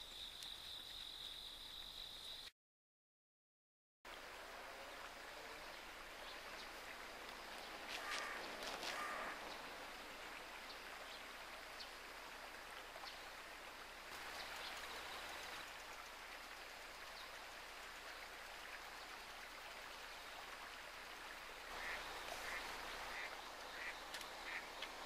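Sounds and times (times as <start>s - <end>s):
river water rushing: 4.1s - 25.0s.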